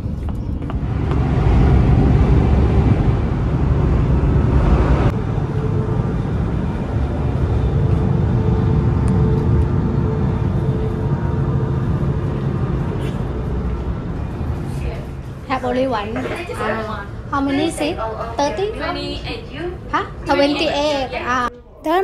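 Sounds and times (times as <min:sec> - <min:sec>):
train rumble from inside carriage: 0:00.0 - 0:21.2.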